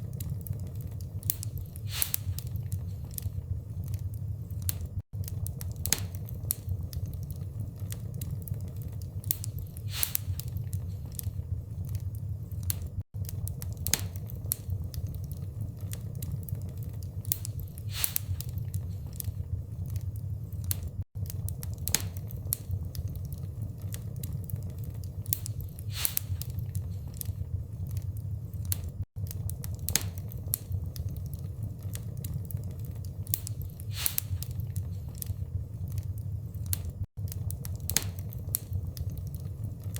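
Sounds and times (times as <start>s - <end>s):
log fire crackling and popping: 0.0s - 39.9s.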